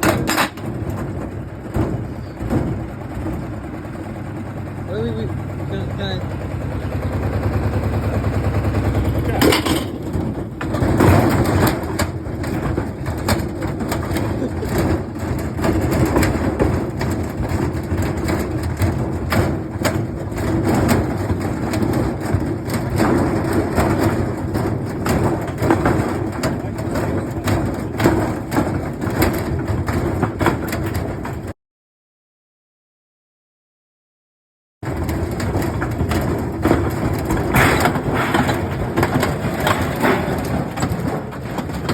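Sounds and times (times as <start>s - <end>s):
washing machine rumble: 0.0s - 31.5s, 34.8s - 41.9s
knocks and clatters: 0.0s - 31.6s, 34.8s - 41.9s.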